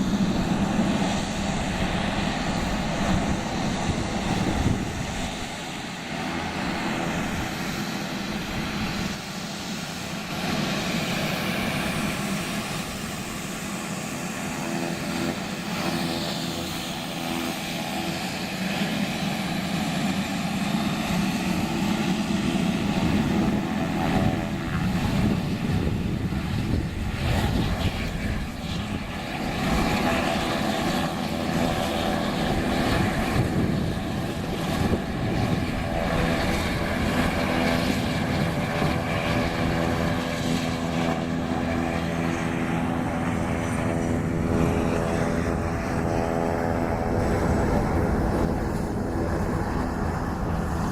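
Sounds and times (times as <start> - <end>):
aircraft engines droning: 0.0 - 50.9.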